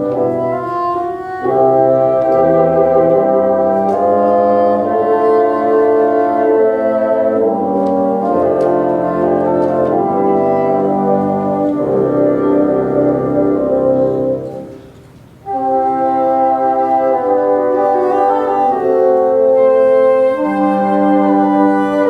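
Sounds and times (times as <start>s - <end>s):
bassoon ensemble playing chords: 0.0s - 22.0s.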